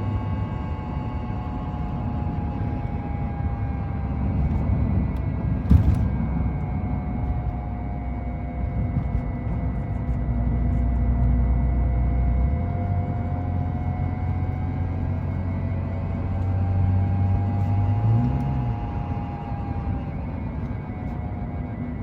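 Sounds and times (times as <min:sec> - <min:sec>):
vehicle engine drone accelerating: 0:00.0 - 0:22.0.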